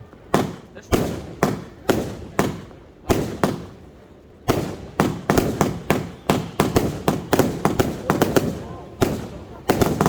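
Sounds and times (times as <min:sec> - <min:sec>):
firework bangs: 0:00.0 - 0:10.0
rapid firework reports: 0:00.0 - 0:10.0.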